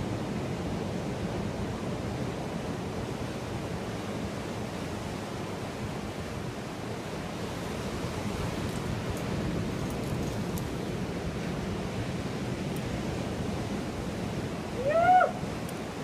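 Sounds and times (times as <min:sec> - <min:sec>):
ocean surf rushing: 0:00.0 - 0:16.0.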